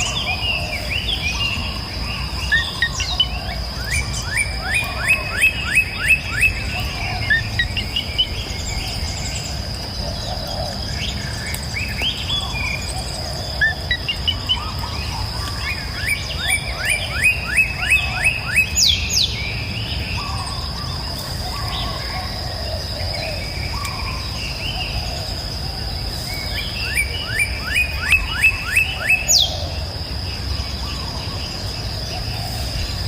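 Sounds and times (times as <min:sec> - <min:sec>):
songbirds singing: 0:00.0 - 0:33.0.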